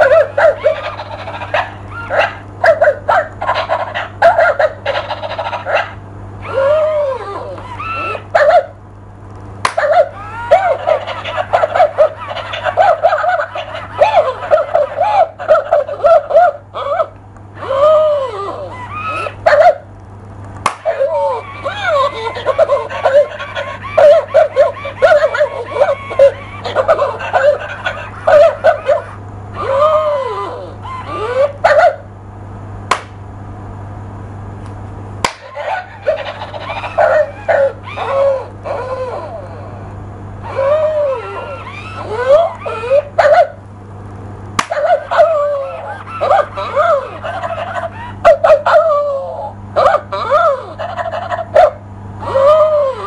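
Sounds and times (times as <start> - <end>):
toy dog yapping from speaker: 0.0 - 8.8, 9.6 - 19.9, 20.7 - 32.1, 35.3 - 39.8, 40.4 - 43.6, 44.6 - 53.0
steady low hum: 0.0 - 53.0.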